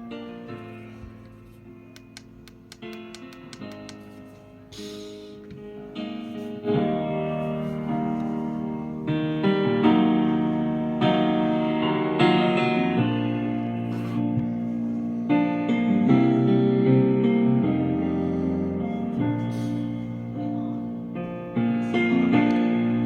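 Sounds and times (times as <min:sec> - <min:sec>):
piano chords through small speaker: 0:00.0 - 0:23.0.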